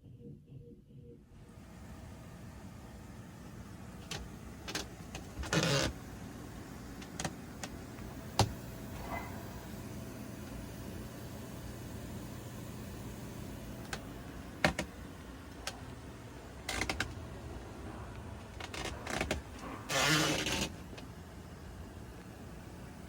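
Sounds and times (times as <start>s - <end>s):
air handler humming: 1.3s - 23.0s.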